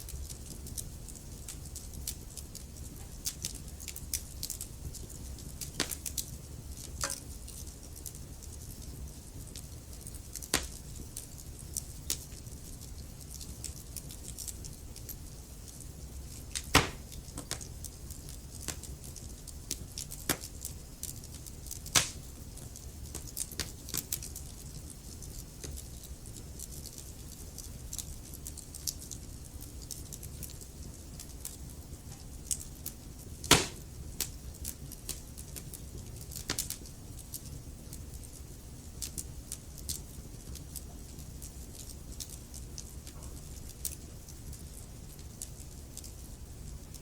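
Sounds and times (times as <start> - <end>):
low fire rumble: 0.0 - 47.0
wood fire crackling and popping: 0.0 - 47.0.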